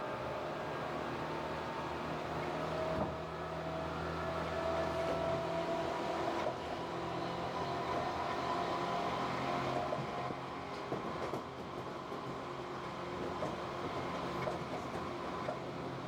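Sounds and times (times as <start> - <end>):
electric train hum from inside: 0.0 - 16.0.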